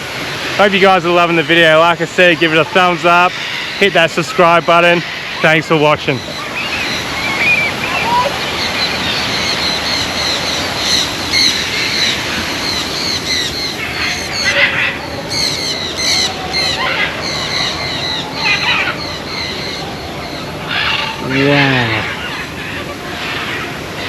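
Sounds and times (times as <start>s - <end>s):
chorus of birds chirping: 0.0s - 24.0s.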